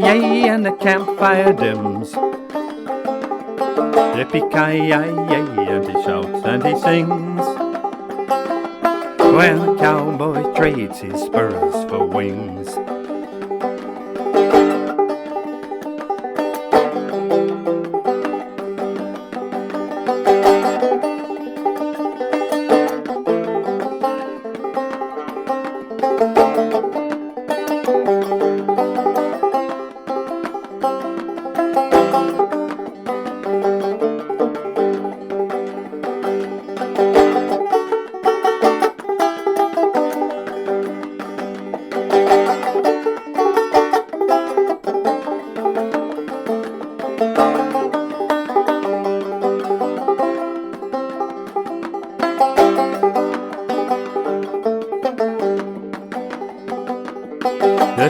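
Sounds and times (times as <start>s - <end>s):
banjo picking: 0.0s - 58.0s.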